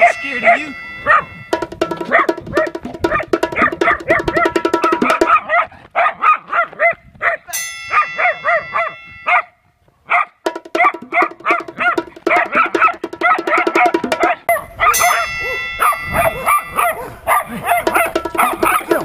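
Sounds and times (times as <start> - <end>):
small dog yapping: 0.0 - 1.4, 2.0 - 9.5, 10.1 - 19.0.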